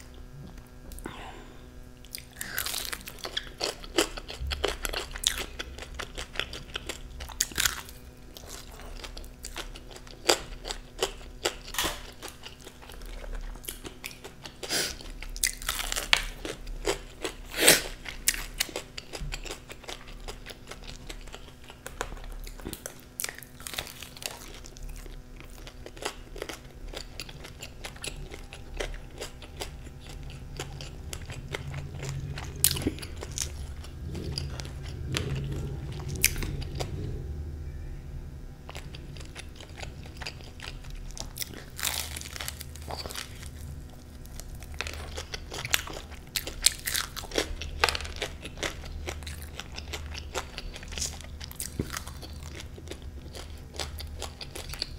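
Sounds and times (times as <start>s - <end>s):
crunching fried chicken crust: 2.0s - 37.1s, 38.7s - 54.9s
wet chewing: 2.0s - 37.2s, 38.7s - 54.9s.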